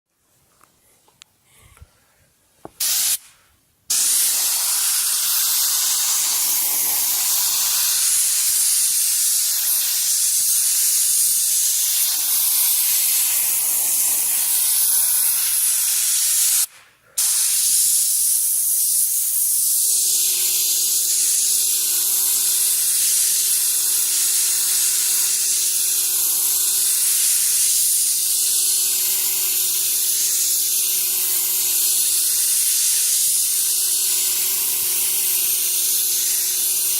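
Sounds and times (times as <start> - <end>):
paint spray gun hissing: 2.7 - 36.9.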